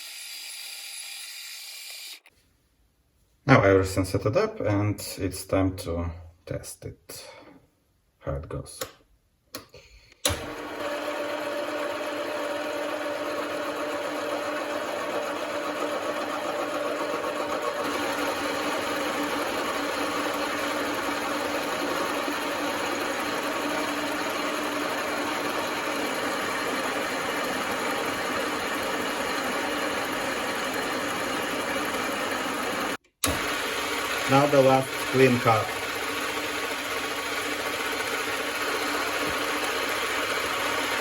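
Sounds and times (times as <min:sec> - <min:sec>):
lathe running with a whine: 0:00.0 - 0:02.2, 0:10.3 - 0:41.0.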